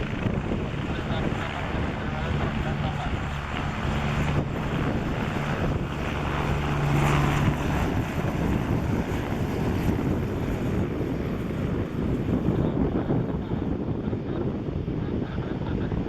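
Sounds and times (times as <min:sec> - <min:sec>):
helicopter hum: 0:00.0 - 0:16.0
wind buffeting microphone: 0:00.0 - 0:16.0.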